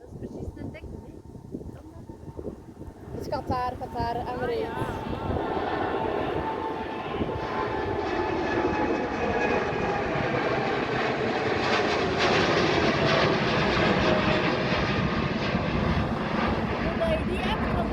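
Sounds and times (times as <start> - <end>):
jet engines at takeoff power: 0.0 - 17.9.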